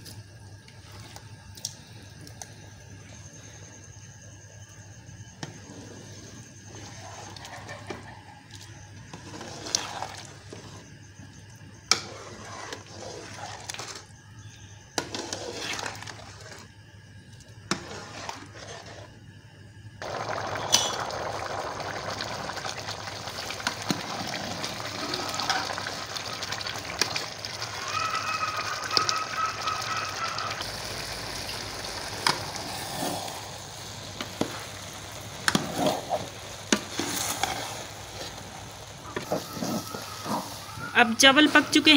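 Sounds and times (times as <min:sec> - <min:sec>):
watery rush of stirring and boiling: 0:05.3 - 0:14.2, 0:14.9 - 0:41.9.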